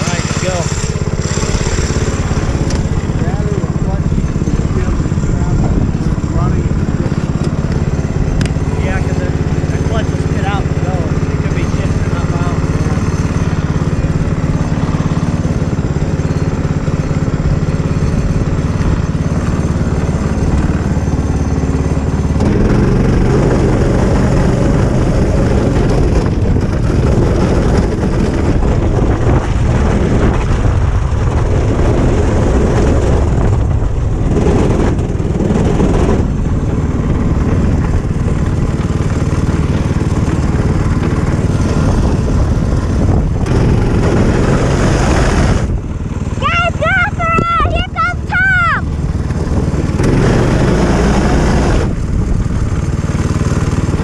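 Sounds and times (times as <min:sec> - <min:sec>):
go-kart engine running: 0:00.0 - 0:54.0
noisy rumble: 0:00.0 - 0:54.0.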